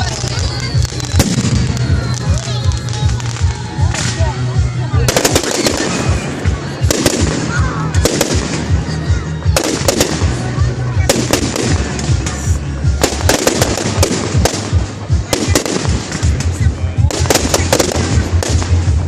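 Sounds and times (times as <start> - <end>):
fireworks bursting with sharp bangs: 0.0 - 19.0
loud music with pulsing bass: 0.0 - 19.0.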